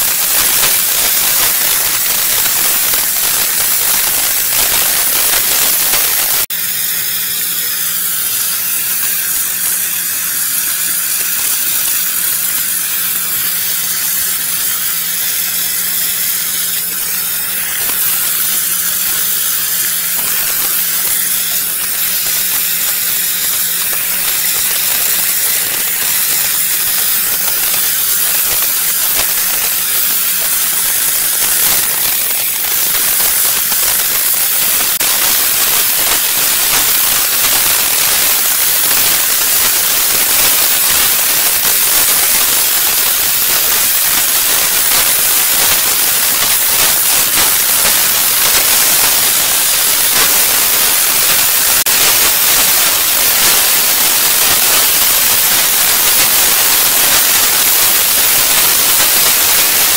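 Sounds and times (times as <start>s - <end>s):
steam cleaner hissing: 0.0s - 59.9s.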